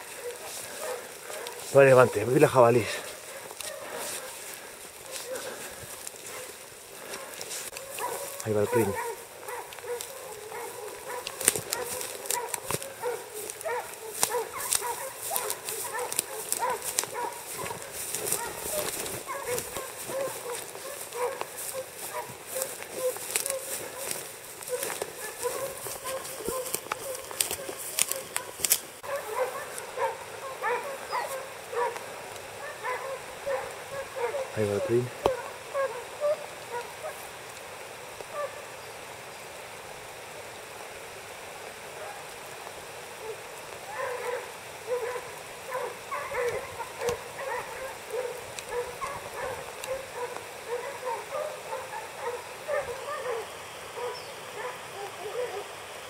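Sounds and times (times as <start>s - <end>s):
hounds barking and baying: 0.0s - 38.8s, 41.8s - 56.0s.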